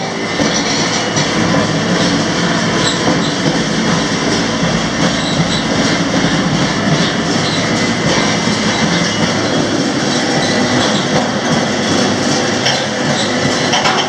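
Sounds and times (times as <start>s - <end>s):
freight train wheels rumbling and rattling: 0.0s - 14.0s.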